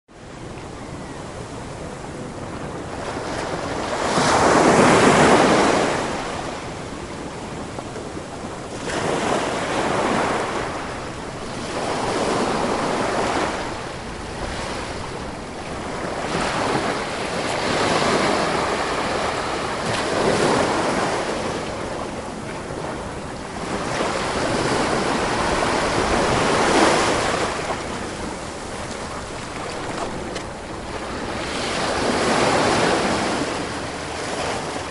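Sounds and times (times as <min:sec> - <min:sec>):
waves breaking: 0:00.3 - 0:34.9.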